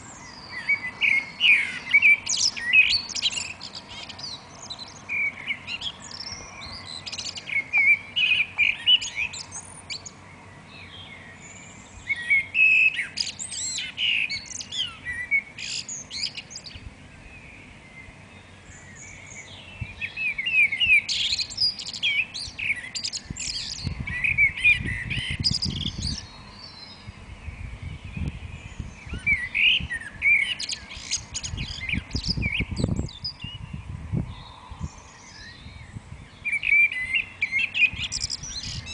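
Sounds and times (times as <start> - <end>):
songbirds warbling: 0.0 - 38.9.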